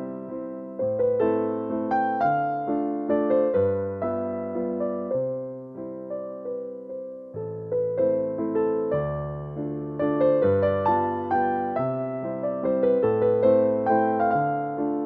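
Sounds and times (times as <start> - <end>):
calm piano music: 0.0 - 15.0.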